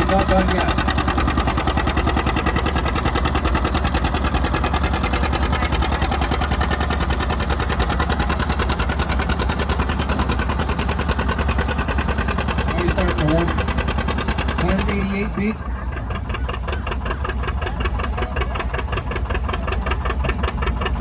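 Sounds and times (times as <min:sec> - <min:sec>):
tractor engine under load: 0:00.0 - 0:21.0.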